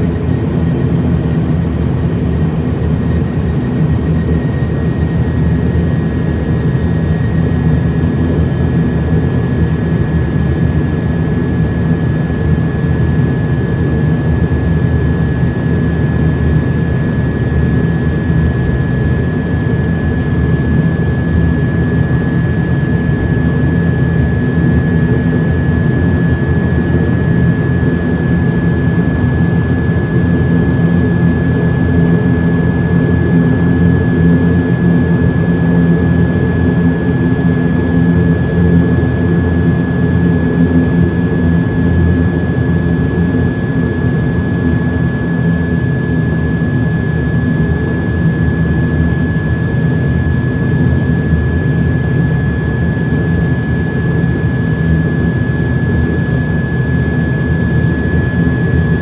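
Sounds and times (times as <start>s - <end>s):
high-pitched engine whine: 0.0s - 59.0s
turboprop engines droning: 0.0s - 59.0s.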